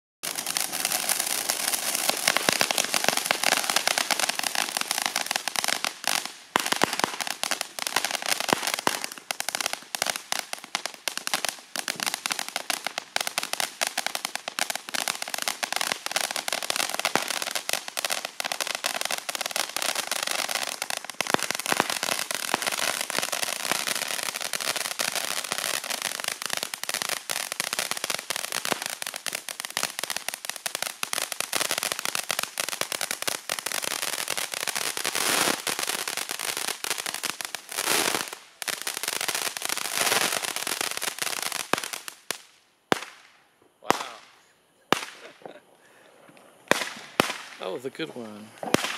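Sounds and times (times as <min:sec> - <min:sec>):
fountain firework crackling and hissing: 0:00.2 - 0:48.9.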